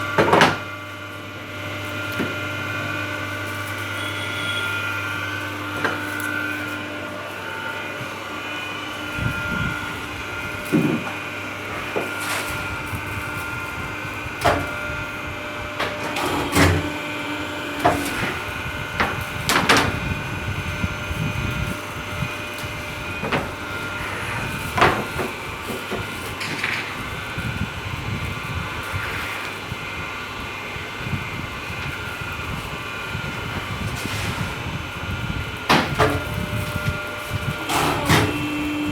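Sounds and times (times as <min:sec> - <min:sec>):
machine hum with tones: 0:00.0 - 0:38.9.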